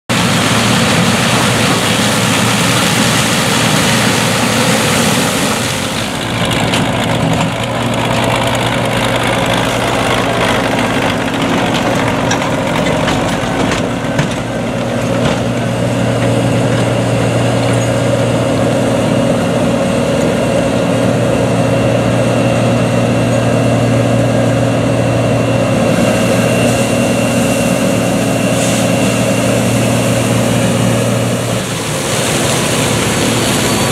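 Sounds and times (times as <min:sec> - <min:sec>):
combine harvester engine: 0:00.1 - 0:33.9
tractor engine: 0:00.1 - 0:33.9.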